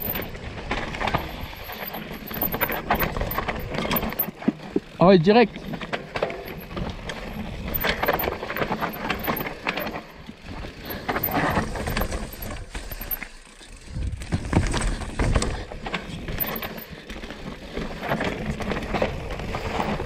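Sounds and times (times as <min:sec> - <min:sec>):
bike knocks and rattles: 0:00.0 - 0:20.0.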